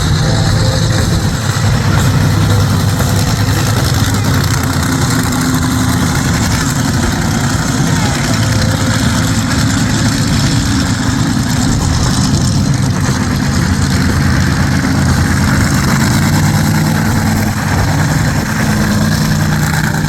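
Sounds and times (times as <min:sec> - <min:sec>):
monster truck engines running: 0:00.0 - 0:20.0.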